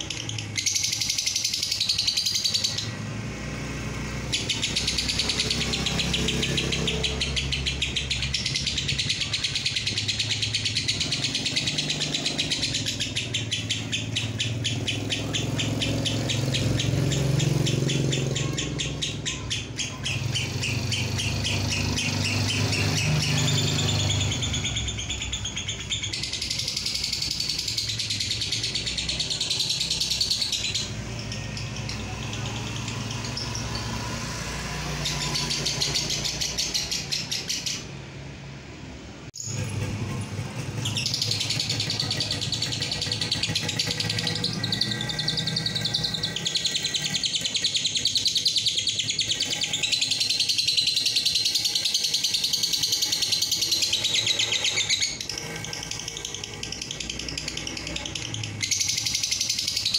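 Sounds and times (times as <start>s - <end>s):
bird chattering: 0.0s - 3.0s, 3.8s - 38.0s, 39.4s - 59.9s.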